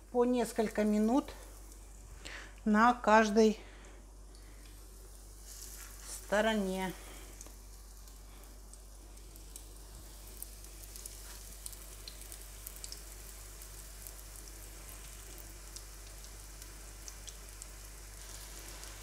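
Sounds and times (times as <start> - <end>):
patties sizzling in oil: 0.0 - 19.0.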